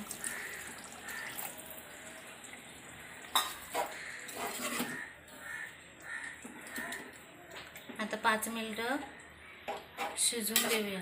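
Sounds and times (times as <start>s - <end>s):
spoon stirring thick gravy: 0.1s - 10.8s.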